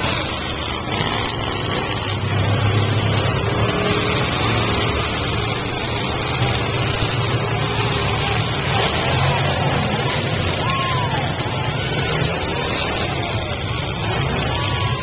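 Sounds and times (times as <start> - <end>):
car engines droning: 0.0 - 15.0.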